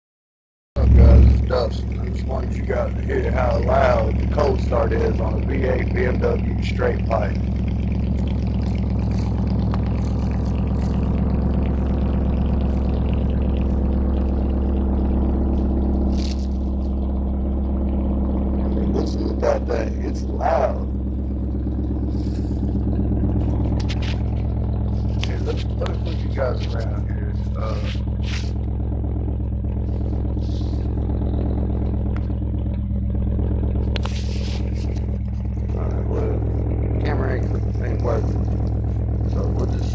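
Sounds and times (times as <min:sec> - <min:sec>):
car engine idling: 0:00.8 - 0:39.9.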